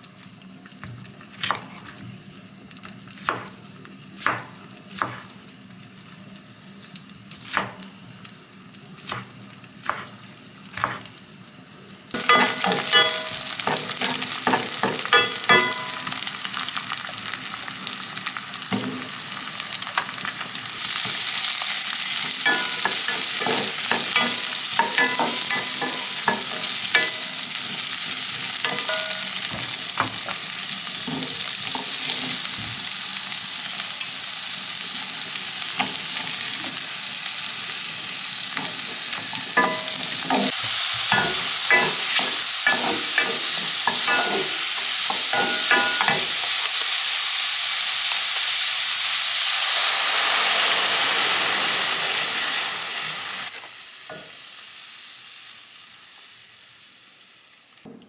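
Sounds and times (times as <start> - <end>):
garlic sizzling in hot oil: 0.0 - 57.9.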